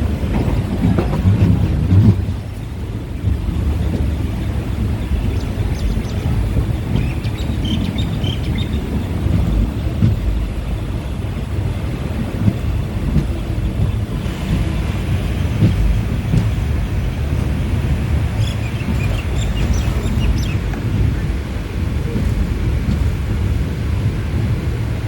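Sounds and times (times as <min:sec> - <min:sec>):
train wheel knocks: 0:00.0 - 0:11.0, 0:12.1 - 0:24.8
train rumbling on track: 0:00.0 - 0:25.0.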